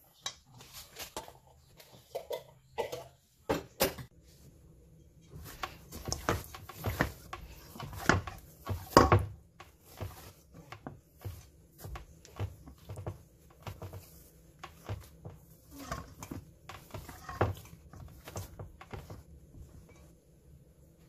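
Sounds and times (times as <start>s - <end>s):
dough kneaded in metal bowl: 4.0s - 21.0s.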